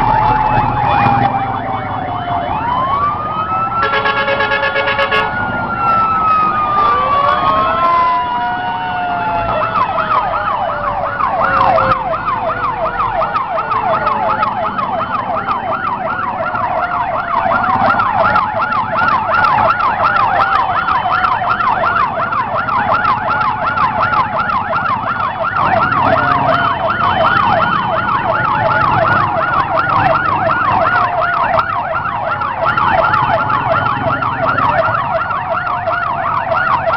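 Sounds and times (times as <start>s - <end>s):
siren electronic yelp: 0.0s - 36.9s
siren slow wail: 0.0s - 36.9s
siren winding down: 0.0s - 36.9s
traffic rumble: 0.0s - 36.9s.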